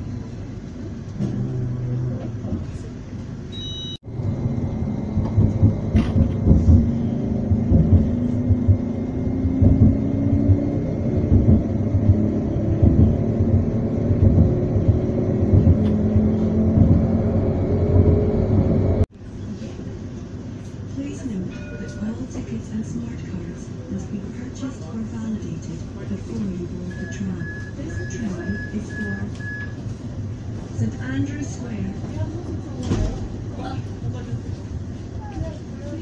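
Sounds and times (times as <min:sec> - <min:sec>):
tram running low rumble: 0:00.0 - 0:36.0.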